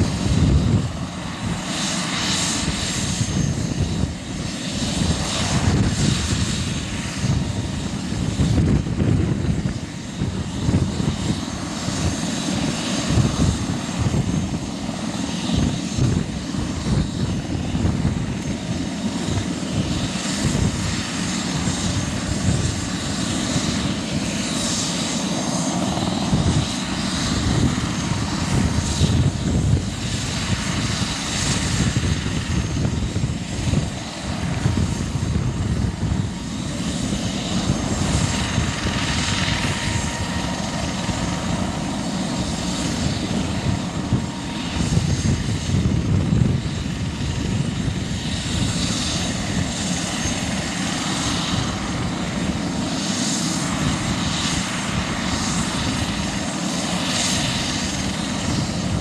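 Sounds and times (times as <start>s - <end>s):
helicopter rotor rumble: 0.0s - 59.0s
helicopter turbine whine: 0.0s - 59.0s.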